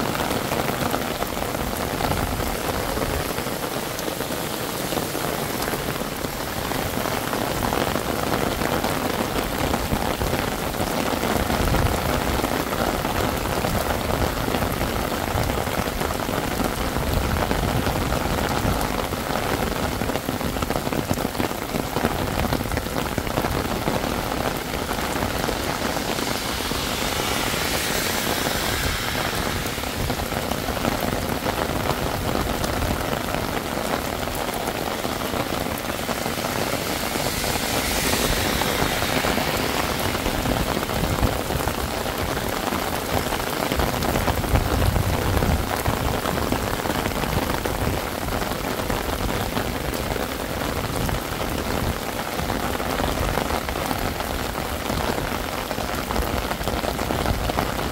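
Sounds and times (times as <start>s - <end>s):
heavy rain on hard surfaces: 0.0s - 57.9s.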